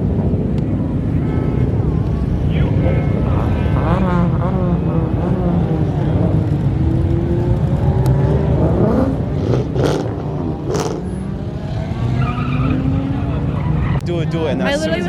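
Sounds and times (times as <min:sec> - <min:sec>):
car engines running: 0:00.0 - 0:15.0
engine revving: 0:01.3 - 0:14.0.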